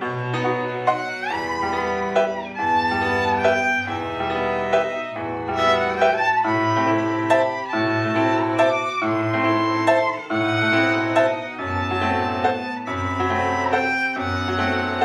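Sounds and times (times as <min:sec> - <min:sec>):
low strings: 0:00.0 - 0:15.0
violin melody: 0:00.0 - 0:15.0.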